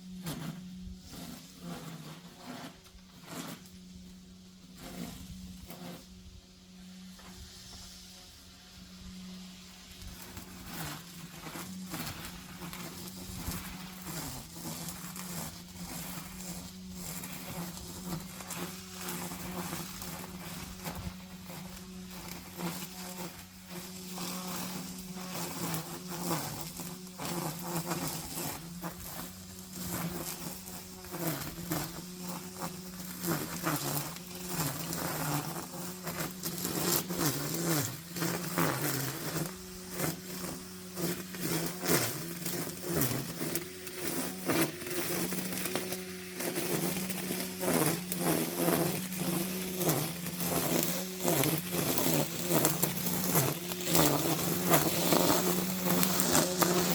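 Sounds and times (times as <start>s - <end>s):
brushcutter engine buzzing: 0.0s - 56.9s.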